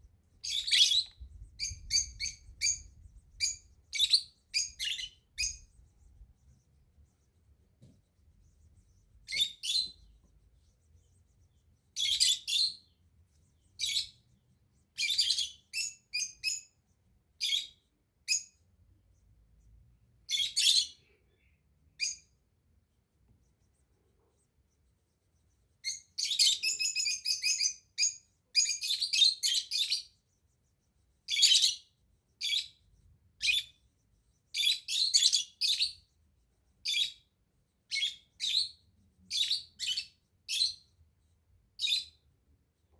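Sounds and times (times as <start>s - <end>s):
small bird chirping: 0.2s - 22.5s, 23.3s - 42.9s.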